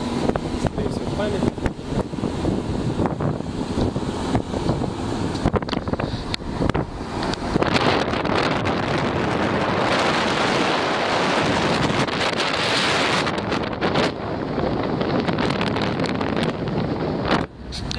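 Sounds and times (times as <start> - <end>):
gust crackles: 0.0 - 17.9
wind buffeting microphone: 0.0 - 17.9.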